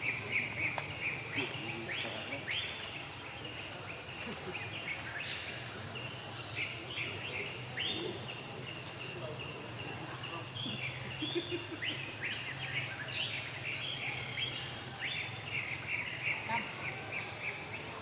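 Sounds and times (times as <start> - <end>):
animals chirping: 0.0 - 5.6, 6.5 - 18.0.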